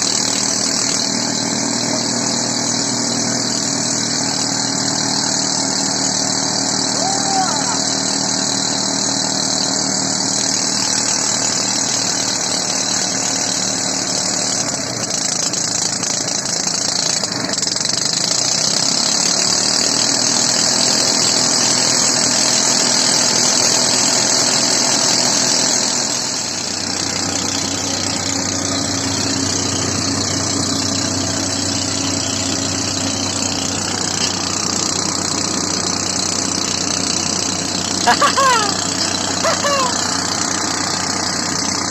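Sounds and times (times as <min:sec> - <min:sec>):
machine engine running: 0:00.0 - 0:41.9.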